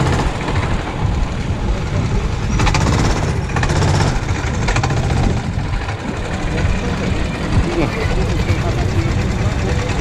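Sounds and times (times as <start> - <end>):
small engine running: 1.4 - 10.0.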